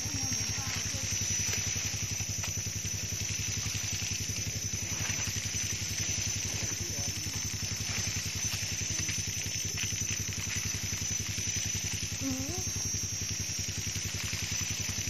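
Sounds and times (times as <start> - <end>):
high whine: 0.0 - 15.0
small engine idling: 0.0 - 15.0.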